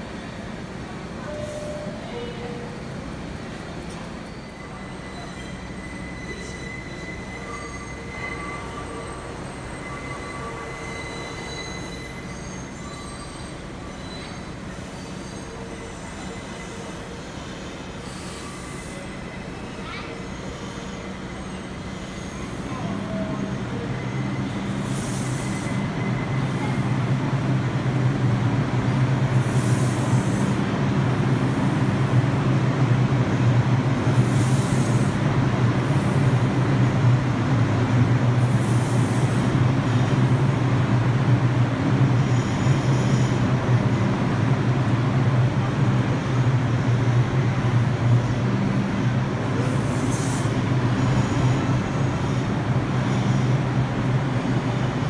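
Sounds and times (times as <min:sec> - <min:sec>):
subway train low hum: 0:00.0 - 0:55.0.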